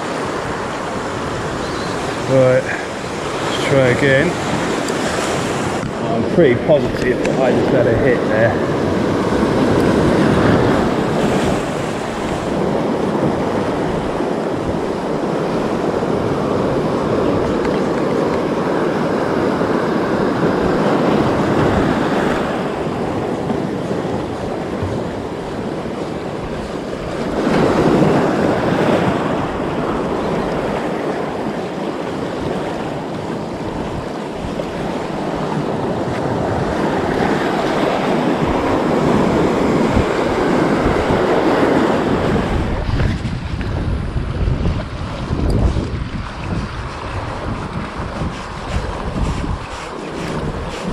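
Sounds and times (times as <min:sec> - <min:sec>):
surf breaking over rocks: 0:00.0 - 0:50.9.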